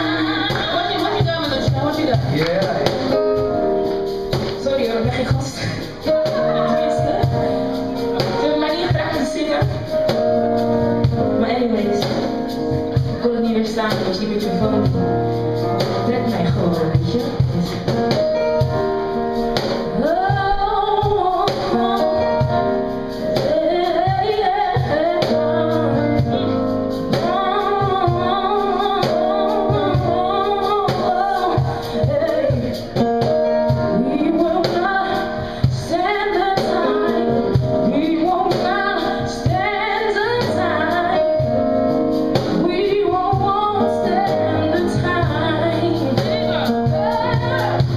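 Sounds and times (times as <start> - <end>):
band accompaniment: 0.0 - 47.9
woman singing into a microphone: 0.0 - 47.9.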